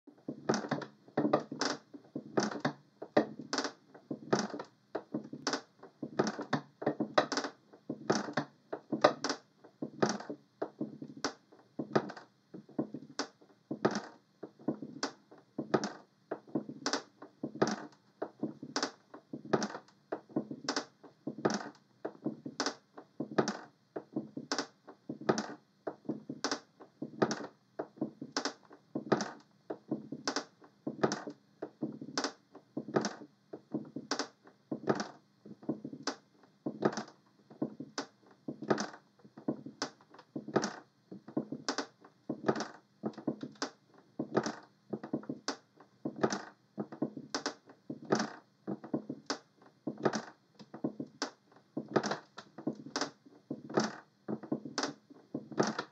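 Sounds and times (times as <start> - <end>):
rocking chair creaking and knocking: 0.1 - 55.9.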